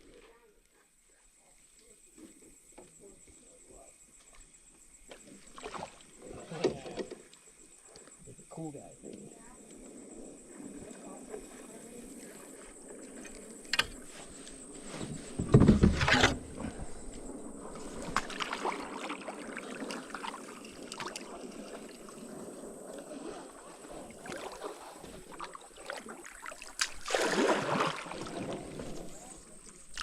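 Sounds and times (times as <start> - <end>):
water sloshing under paddle strokes: 4.5 - 8.4, 9.0 - 30.0.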